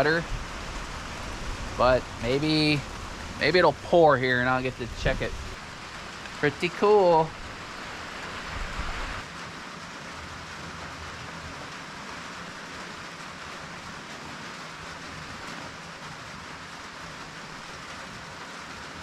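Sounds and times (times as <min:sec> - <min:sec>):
rain on metal roofing: 0:00.0 - 0:19.0.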